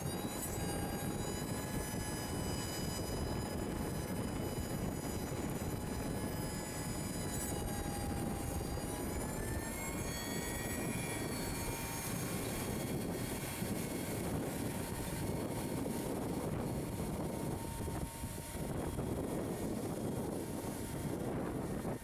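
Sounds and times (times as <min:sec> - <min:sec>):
high mechanical whine: 0:00.0 - 0:22.0.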